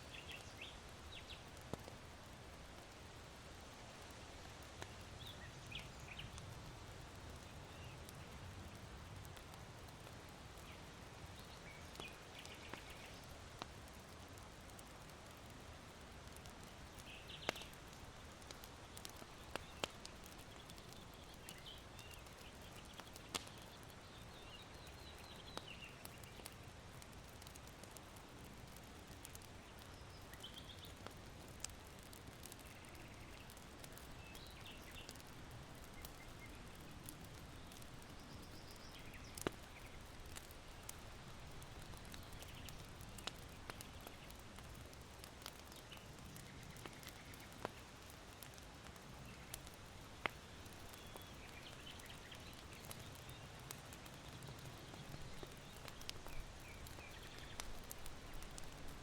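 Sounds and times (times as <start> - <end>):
small birds chirping: 0.0 - 2.0, 4.0 - 15.6, 16.2 - 59.0
charcoal crackling and popping: 0.0 - 59.0.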